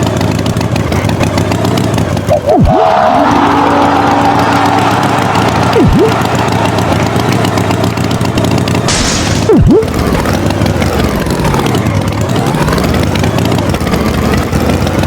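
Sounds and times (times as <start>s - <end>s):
engine running with low rumble: 0.0s - 15.0s.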